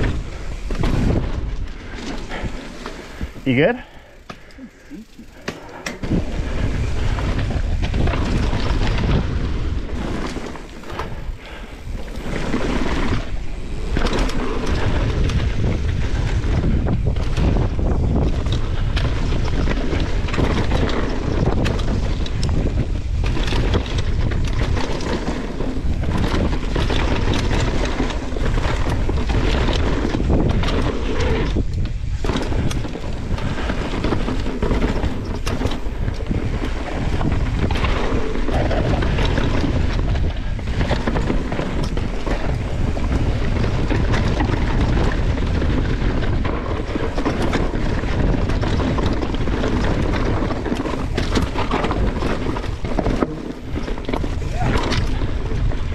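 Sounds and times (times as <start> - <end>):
bike knocking and rattling: 0.0 - 55.9
bike tyres rushing over dirt: 0.0 - 55.9
wind buffeting microphone: 0.0 - 55.9.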